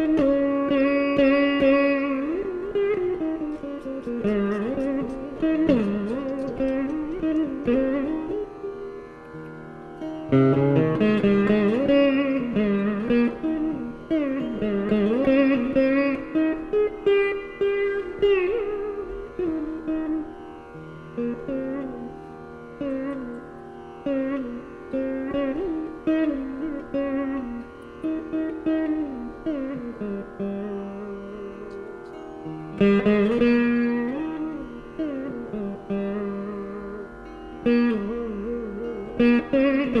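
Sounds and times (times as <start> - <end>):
veena plucked notes: 0.0 - 40.0.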